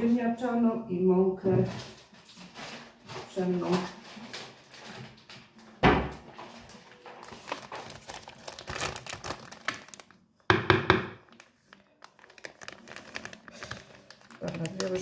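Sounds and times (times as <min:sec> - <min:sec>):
paper bag crinkling: 0:01.7 - 0:10.3, 0:11.3 - 0:15.0.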